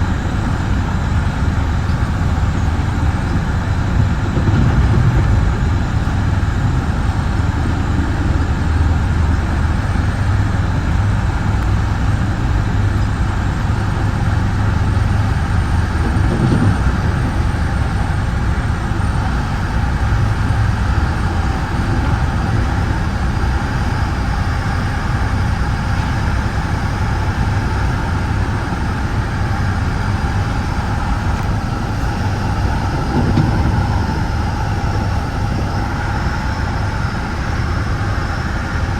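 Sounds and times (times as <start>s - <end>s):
train rolling on track: 0.0s - 38.9s.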